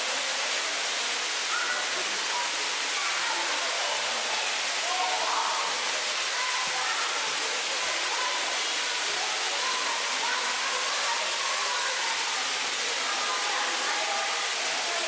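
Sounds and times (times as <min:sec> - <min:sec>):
faint indistinct voices: 0:00.0 - 0:15.0
falling water rushing: 0:00.0 - 0:15.0.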